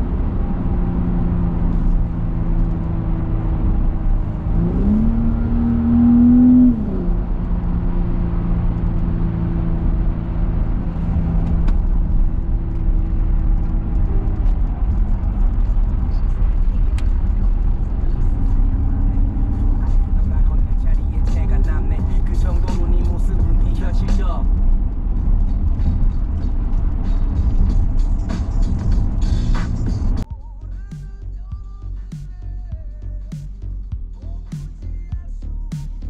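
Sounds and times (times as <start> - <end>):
car engine and tyre hum: 0.0 - 36.0.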